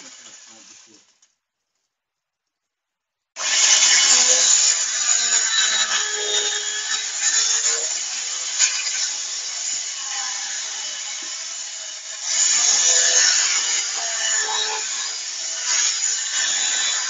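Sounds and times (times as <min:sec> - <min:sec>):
electric saw cutting wood: 0:00.0 - 0:01.0, 0:03.4 - 0:17.0.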